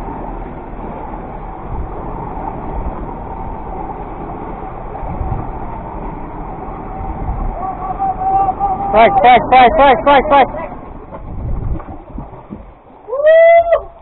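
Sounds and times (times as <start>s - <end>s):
boat engine rumble: 0.0s - 14.0s
rush of wind and water: 0.0s - 14.0s.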